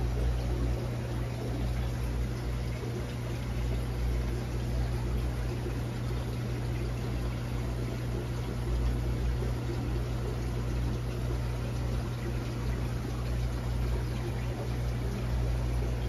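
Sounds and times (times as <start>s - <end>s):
low pump hum: 0.0s - 16.0s.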